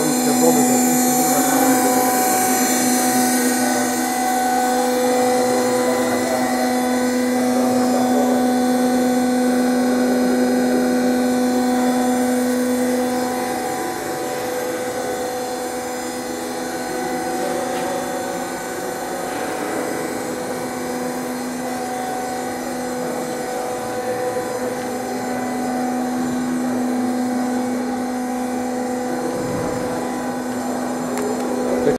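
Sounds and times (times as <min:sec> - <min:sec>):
block machine humming and whining: 0:00.0 - 0:31.9.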